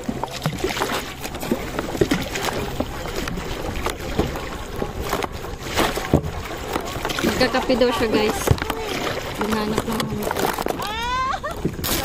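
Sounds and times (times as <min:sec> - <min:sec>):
water lapping around kayaks: 0:00.0 - 0:12.0.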